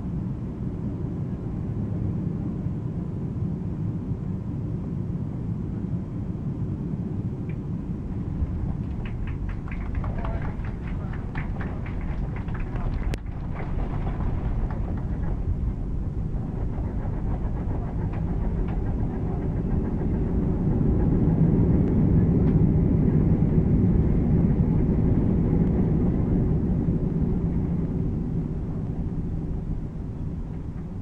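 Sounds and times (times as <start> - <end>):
airplane cabin rumble: 0.0 - 31.0
jet engines in reverse thrust: 0.0 - 31.0.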